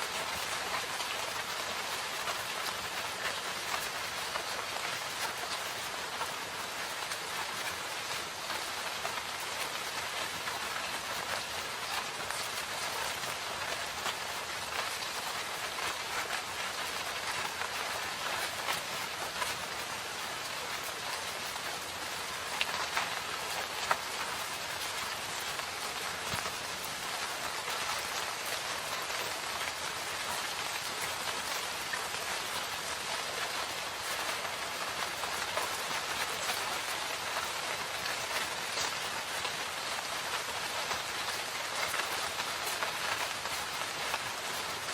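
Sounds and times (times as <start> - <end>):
rain falling in forest: 0.0 - 44.9.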